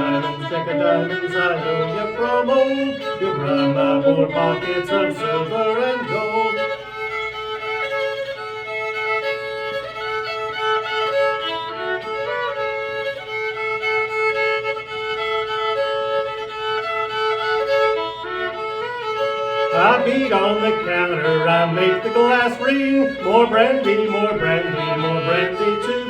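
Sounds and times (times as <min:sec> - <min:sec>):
solo fiddle playing: 0:00.0 - 0:26.0.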